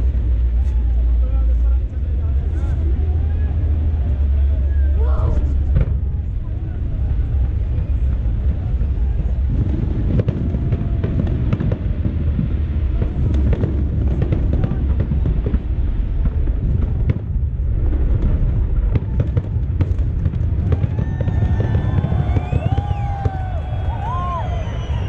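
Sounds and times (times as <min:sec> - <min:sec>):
fireworks bangs and crackles: 0:00.0 - 0:25.0
heavy low rumble: 0:00.0 - 0:25.0.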